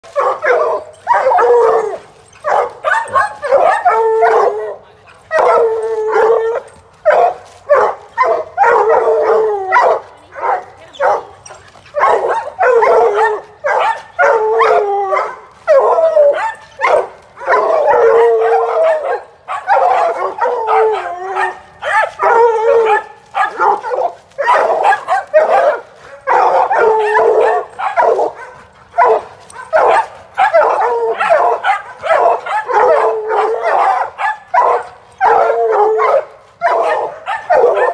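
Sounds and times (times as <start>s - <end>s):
hounds baying and barking: 0.0s - 37.9s.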